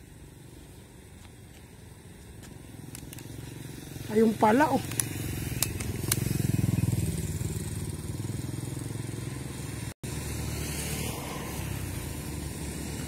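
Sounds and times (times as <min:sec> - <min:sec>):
motorcycle engine running: 0:01.3 - 0:13.0.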